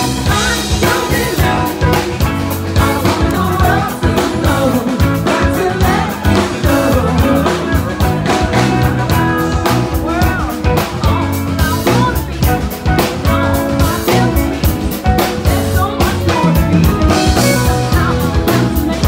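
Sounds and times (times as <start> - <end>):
live rock band playing: 0.0 - 19.0
steady drum beat: 0.0 - 19.0.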